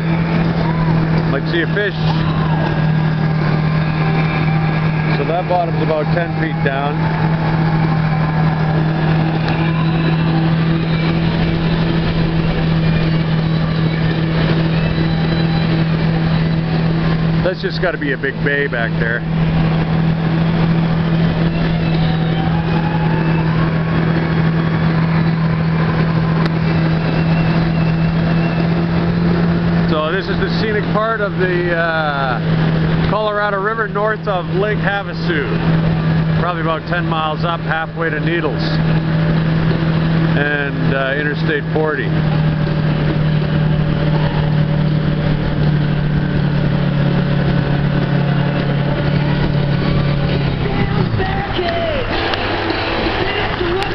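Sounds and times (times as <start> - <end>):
jet ski engine droning: 0.0 - 53.9
wind: 0.0 - 53.9.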